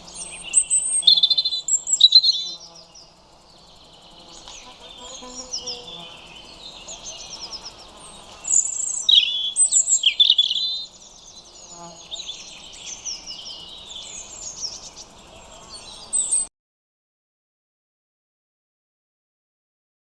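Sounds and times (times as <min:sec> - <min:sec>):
robins singing: 0:00.0 - 0:16.5.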